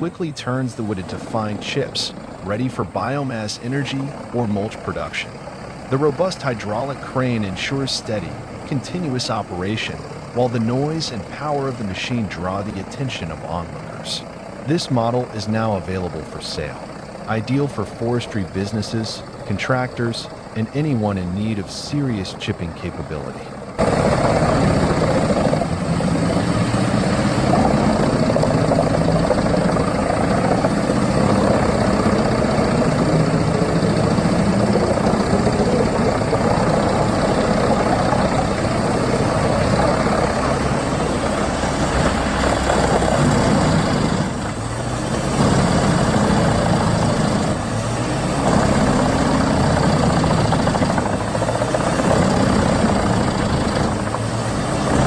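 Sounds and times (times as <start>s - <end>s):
wood chipper drone: 0.0s - 55.0s.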